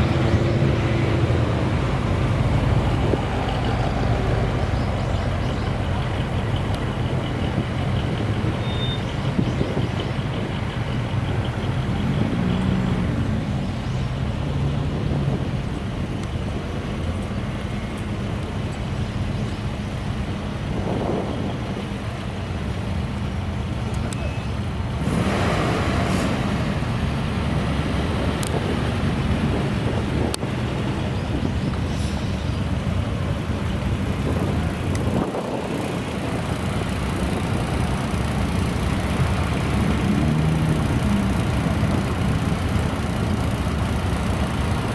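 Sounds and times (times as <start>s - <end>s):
cars driving past: 0.0s - 18.3s, 24.5s - 44.9s
low engine rumble: 0.0s - 44.9s.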